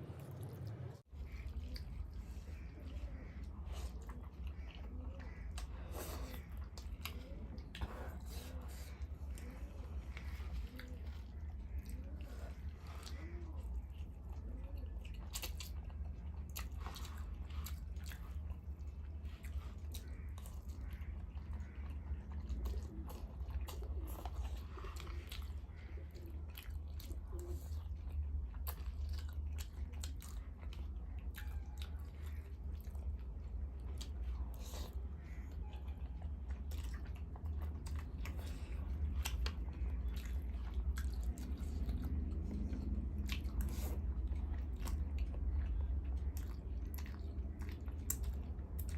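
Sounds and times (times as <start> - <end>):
person chewing and crunching food: 0.0 - 48.9
steady low hum: 0.0 - 48.9.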